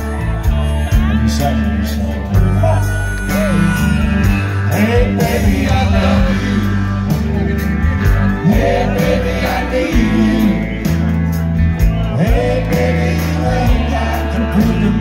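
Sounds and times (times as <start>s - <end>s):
live country band playing: 0.0s - 15.0s.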